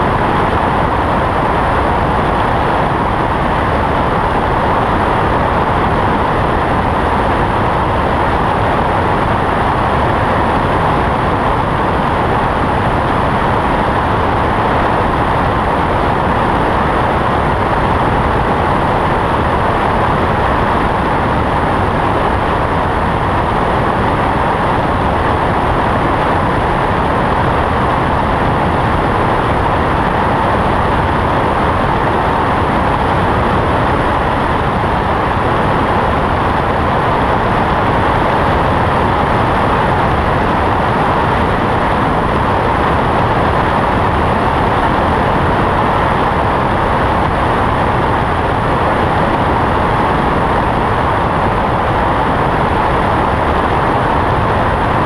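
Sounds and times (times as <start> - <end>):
airplane engine and propeller: 0.0 - 55.0
wind rush: 0.0 - 55.0.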